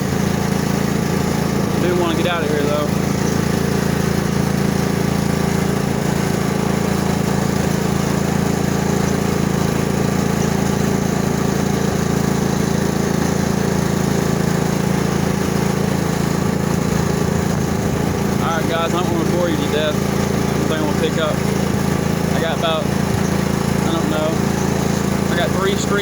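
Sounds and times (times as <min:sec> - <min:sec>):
riding lawn mower engine running: 0:00.0 - 0:26.0.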